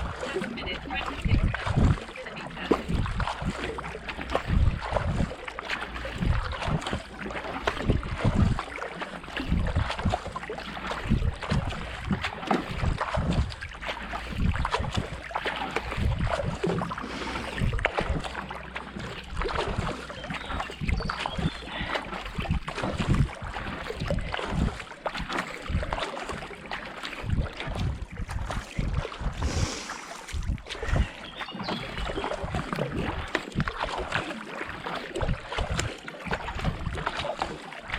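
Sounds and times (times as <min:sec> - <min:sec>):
wind buffeting microphone: 0:00.0 - 0:26.0, 0:27.2 - 0:34.2
kayak paddle strokes in water: 0:00.0 - 0:37.9
water washing along hull: 0:00.0 - 0:37.9.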